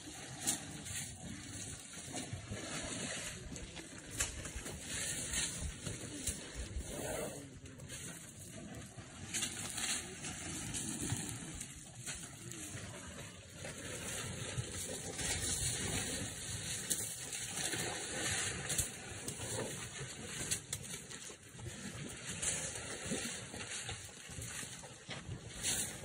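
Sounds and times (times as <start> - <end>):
mud splashing and squelching: 0.0 - 26.0.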